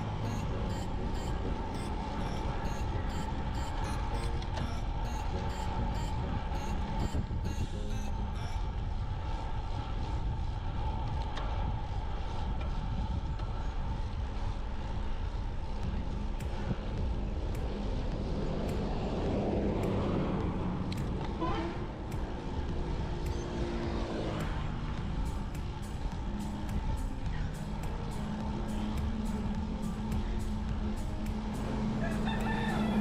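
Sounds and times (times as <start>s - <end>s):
vehicle passing: 0.0s - 33.0s
wind and tyre rumble: 0.0s - 33.0s.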